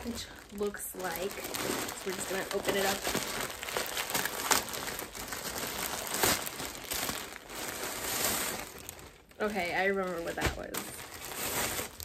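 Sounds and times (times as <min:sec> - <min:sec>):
plastic crinkling rustle: 0:00.0 - 0:12.0
sharp plastic crackles: 0:00.0 - 0:12.0.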